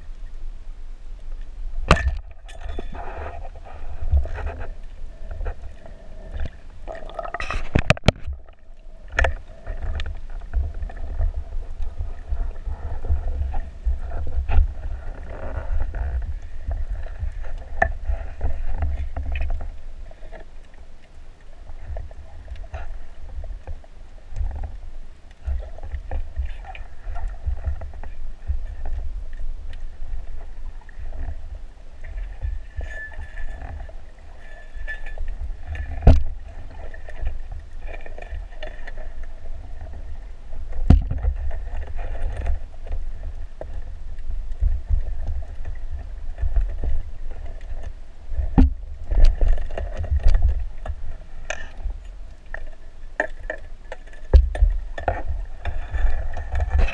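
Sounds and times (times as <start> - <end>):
underwater rumble of moving water: 0.0 - 56.9.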